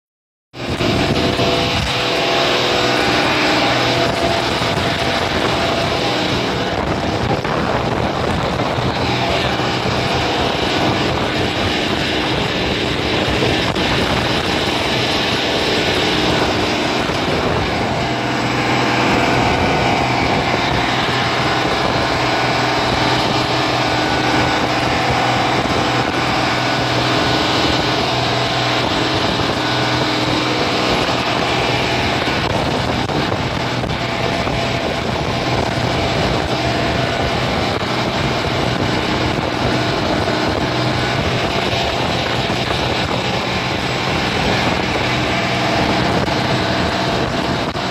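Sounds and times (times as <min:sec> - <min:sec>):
churning water: 0:00.5 - 0:47.9
motorboat engine running: 0:00.5 - 0:47.9
wind rushing: 0:00.6 - 0:47.9.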